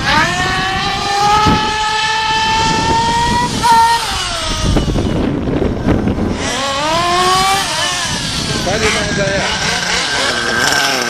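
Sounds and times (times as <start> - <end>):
rough low engine noise: 0.0 - 11.0
small engine running at high revs: 0.0 - 11.0.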